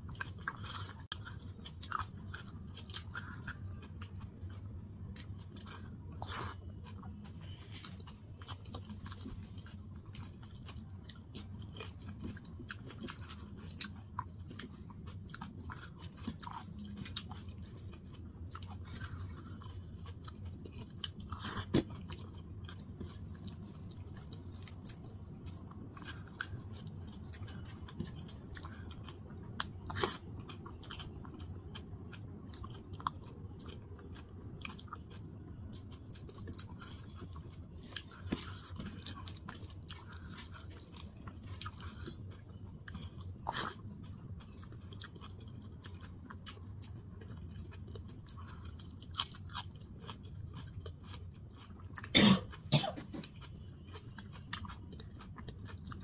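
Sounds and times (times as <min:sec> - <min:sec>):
chewing: 0:00.0 - 0:56.0
steady low hum: 0:00.0 - 0:56.0.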